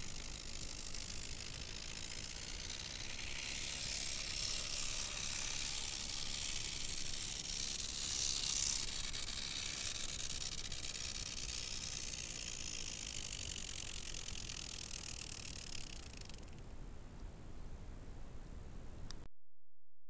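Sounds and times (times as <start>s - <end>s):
model train whirring on track: 0.0s - 16.6s.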